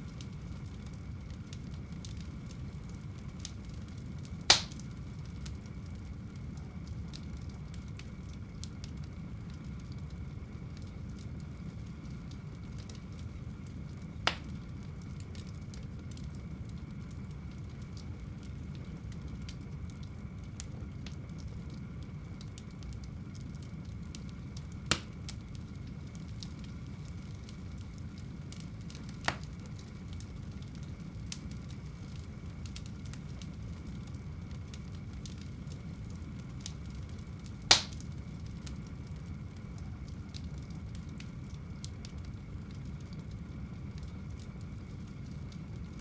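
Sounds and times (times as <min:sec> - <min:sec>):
burning wood popping: 0:00.0 - 0:46.0
faint fire crackles: 0:00.0 - 0:46.0
fire low rumble: 0:00.0 - 0:46.0.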